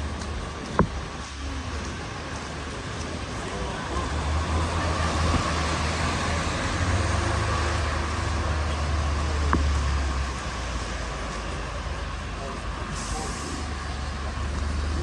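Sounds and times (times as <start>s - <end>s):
road and tyre noise: 0.0s - 15.0s
vehicle engine rumble: 0.0s - 15.0s.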